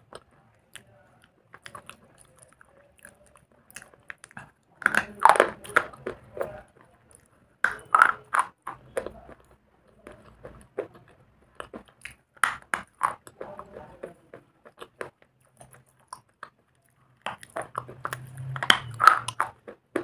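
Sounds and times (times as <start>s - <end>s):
slate being crunched and chewed: 0.0s - 20.0s.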